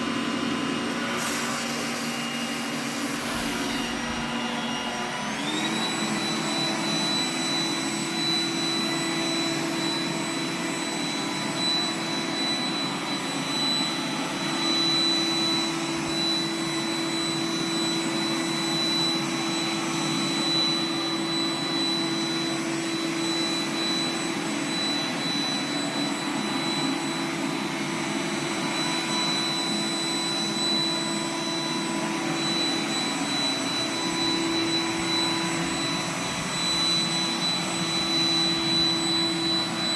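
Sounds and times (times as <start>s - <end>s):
robot vacuum motor whine: 0.0s - 39.9s.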